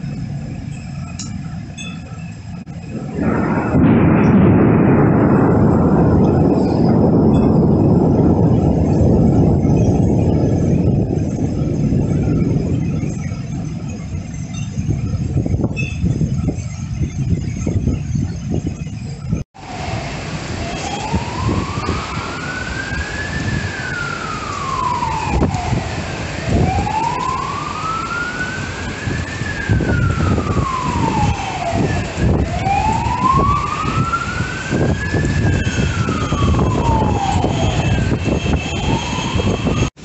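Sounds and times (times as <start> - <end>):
emergency siren wailing: 0.0 - 40.0
storm and street noise: 0.0 - 40.0.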